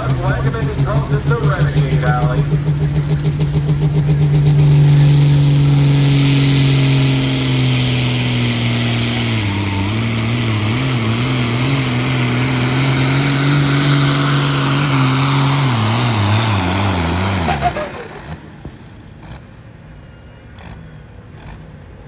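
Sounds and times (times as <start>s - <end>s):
engine running at high revs: 0.0s - 22.0s.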